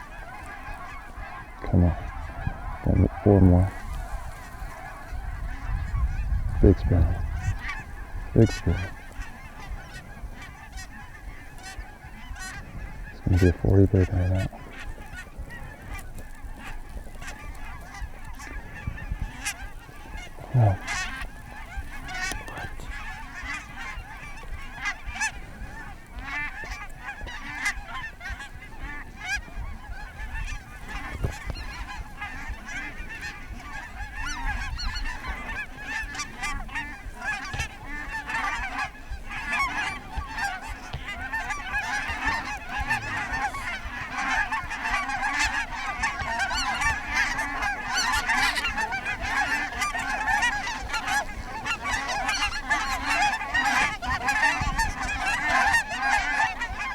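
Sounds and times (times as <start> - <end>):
flock of geese honking: 0.0 - 56.9.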